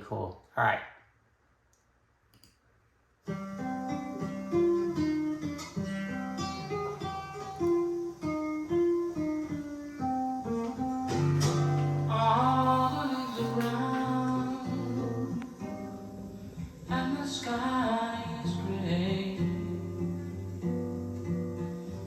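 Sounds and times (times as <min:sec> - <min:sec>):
acoustic guitar plucked notes: 0:03.3 - 0:22.0.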